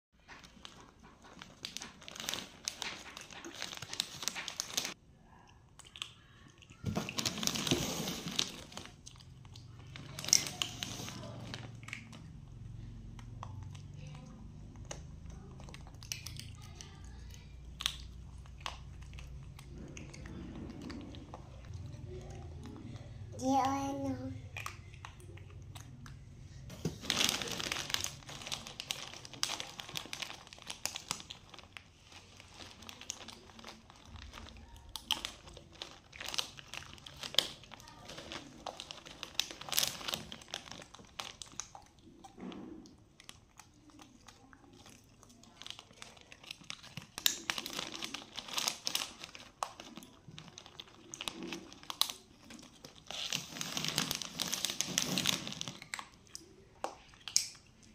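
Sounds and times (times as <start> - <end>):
crisp snacks crunching: 0.2 - 5.0, 5.8 - 23.1, 24.1 - 57.9
plastic snack bag crinkling: 0.2 - 5.0, 5.9 - 26.0, 26.7 - 57.9.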